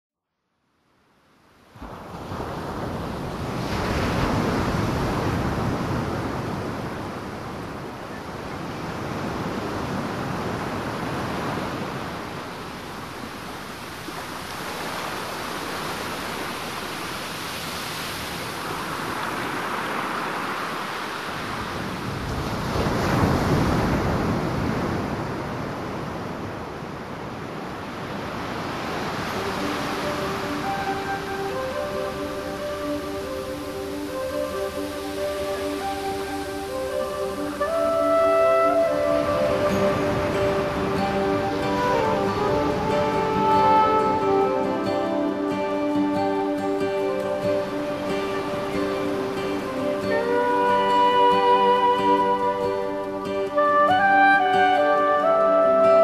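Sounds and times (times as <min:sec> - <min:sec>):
ocean waves breaking: 0:01.7 - 0:56.0.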